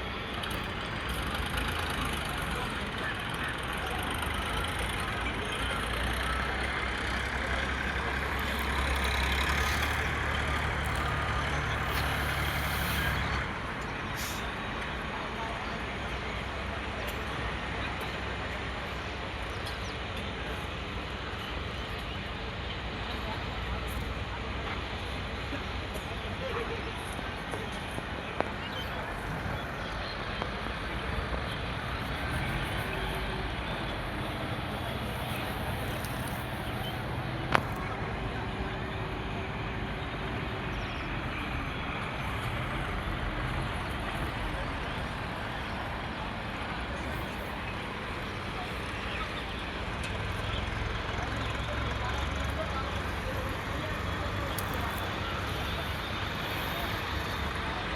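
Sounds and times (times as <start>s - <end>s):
tractor engine running: 0.1s - 40.7s, 42.0s - 57.9s.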